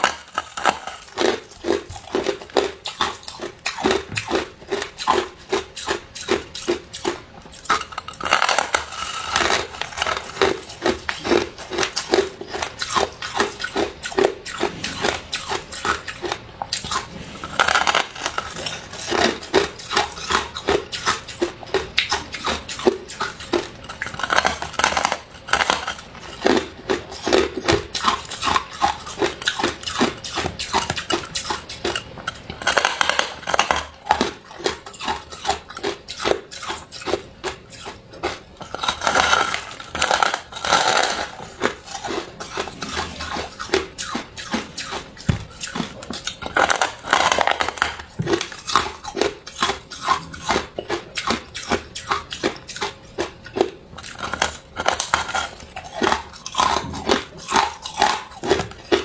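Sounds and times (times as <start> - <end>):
person chewing crushed ice: 0.0 - 59.0.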